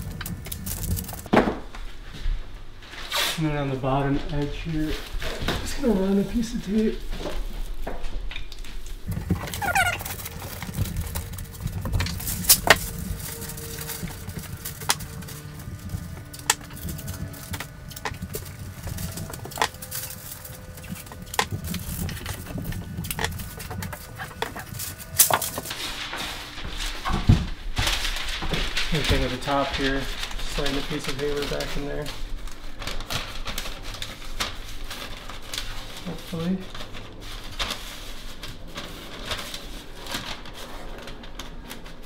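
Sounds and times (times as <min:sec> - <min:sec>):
paper rustling: 0:00.0 - 0:02.2, 0:02.8 - 0:42.0
low steady rumble: 0:03.4 - 0:42.0.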